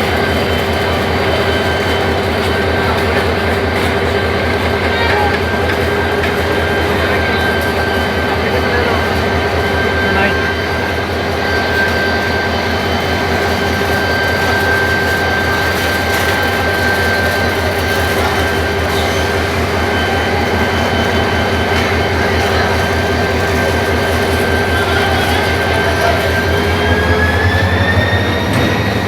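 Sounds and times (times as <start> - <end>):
high whine: 0.0 - 29.0
locomotive engine hum: 0.0 - 29.0.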